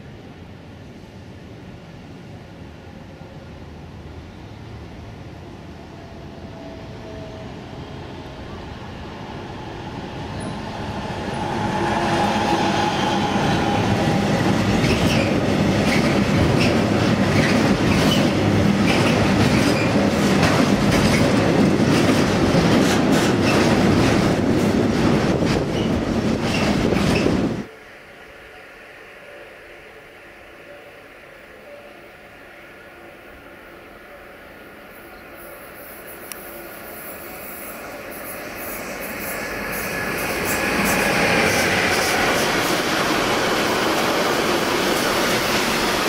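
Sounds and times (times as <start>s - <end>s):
freight train rumbling: 0.0s - 46.0s.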